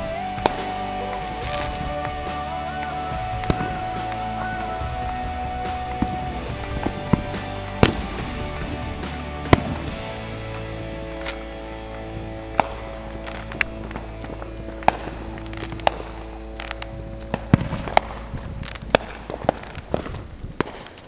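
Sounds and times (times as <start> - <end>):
song playing in background: 0.0 - 18.2.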